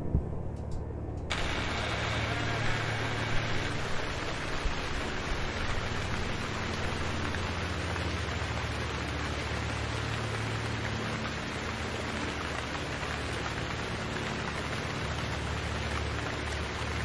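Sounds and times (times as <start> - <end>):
low hum: 0.0 - 17.0
steady rain hiss: 1.3 - 17.0.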